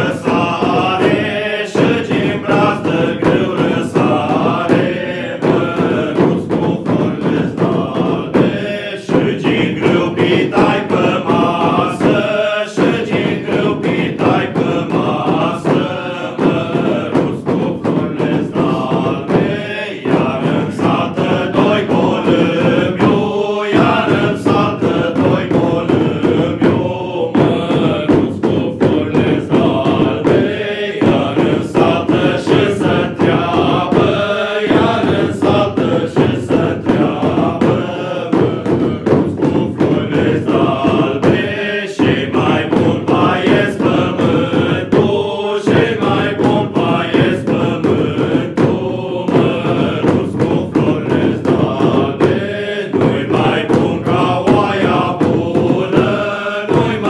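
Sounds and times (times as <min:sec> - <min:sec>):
hand drum beats: 0:00.0 - 0:57.0
men's group singing: 0:00.0 - 0:57.0.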